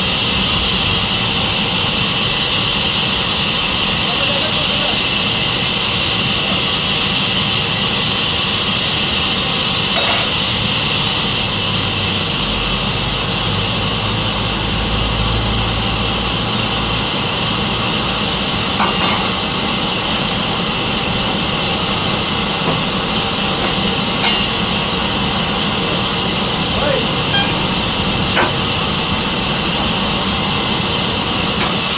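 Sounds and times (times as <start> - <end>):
sawmill saw running: 0.0 - 31.9.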